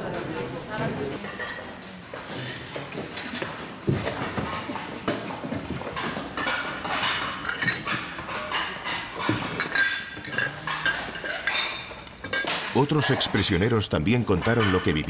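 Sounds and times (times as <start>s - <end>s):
household objects clattering: 1.0s - 15.0s.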